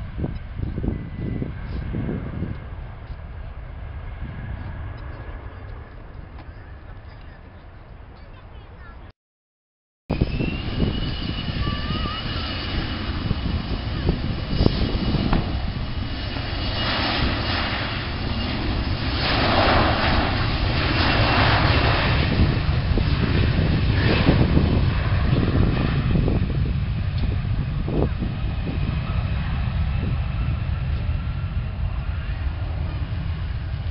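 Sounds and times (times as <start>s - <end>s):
jet engine rumble and whine: 0.0s - 9.1s, 10.1s - 33.9s.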